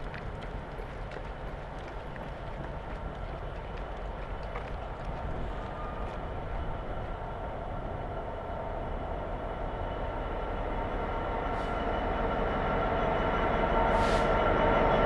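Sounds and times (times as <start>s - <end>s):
train rumbling along rails: 0.0s - 15.0s.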